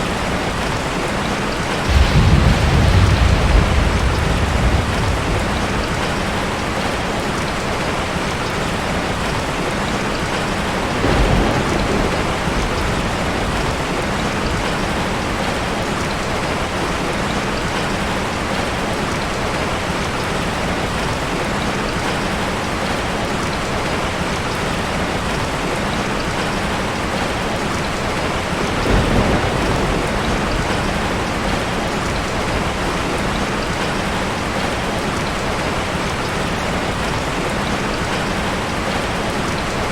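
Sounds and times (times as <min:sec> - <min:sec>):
heavy rain hissing: 0:00.0 - 0:22.0, 0:22.6 - 0:39.9.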